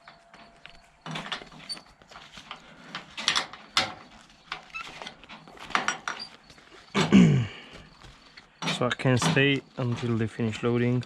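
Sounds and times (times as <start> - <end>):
knocks and clatters loading trailer: 0.0 - 7.9, 8.5 - 11.0.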